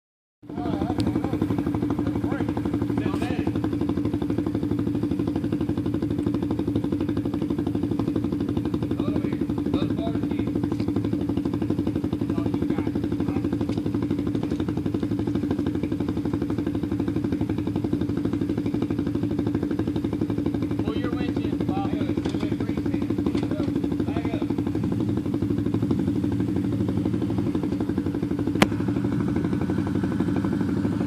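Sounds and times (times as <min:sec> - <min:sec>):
atv engine idling: 0:00.4 - 0:31.0.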